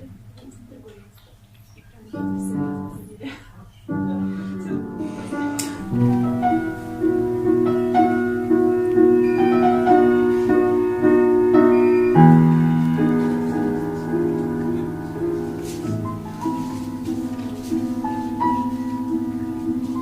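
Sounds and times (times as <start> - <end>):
slow piano music: 2.0 - 20.0.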